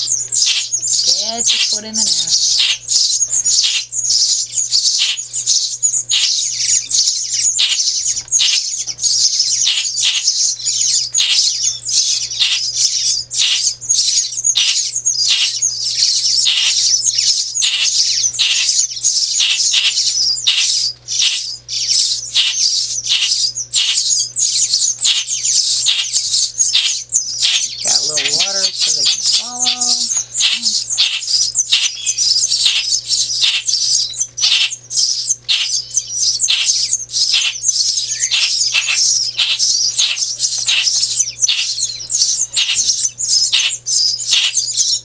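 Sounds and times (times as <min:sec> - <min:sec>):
nestling birds begging chirps: 0:00.0 - 0:45.0.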